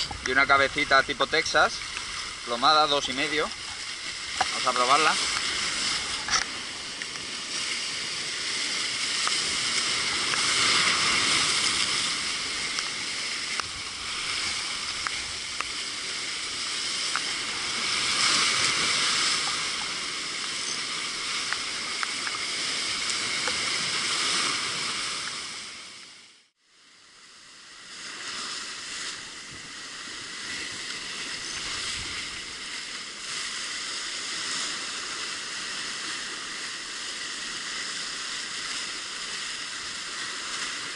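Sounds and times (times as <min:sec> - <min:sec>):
surf breaking over rocks: 0:00.0 - 0:26.0, 0:27.8 - 0:40.9.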